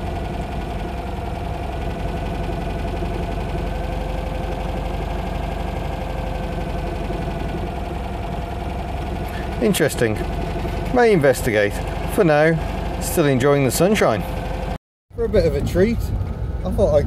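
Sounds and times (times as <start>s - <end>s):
air-cooled engine idling: 0.0s - 17.0s.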